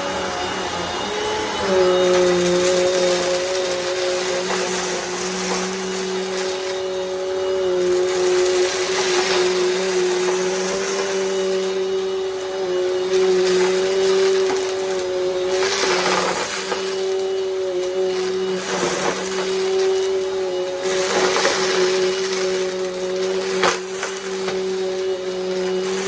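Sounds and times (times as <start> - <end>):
vacuum cleaner motor whine: 0.0 - 26.0
debris rattling up nozzle: 1.6 - 26.0.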